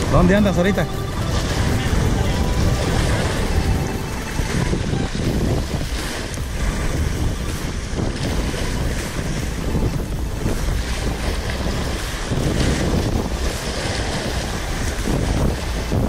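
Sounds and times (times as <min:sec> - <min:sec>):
surf washing: 0:00.0 - 0:16.0
wind blowing across microphone: 0:00.0 - 0:16.0.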